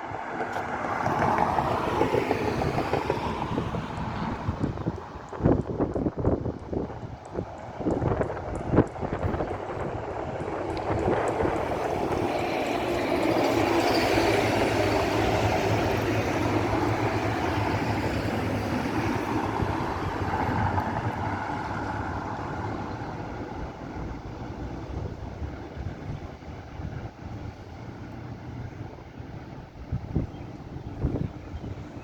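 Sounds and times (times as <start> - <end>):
bus diesel engine passing: 0.0 - 32.0.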